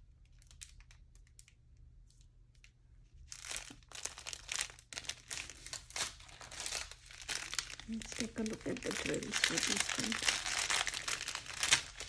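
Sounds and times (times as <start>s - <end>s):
plastic packaging crinkling: 0.2s - 1.6s, 2.6s - 12.0s.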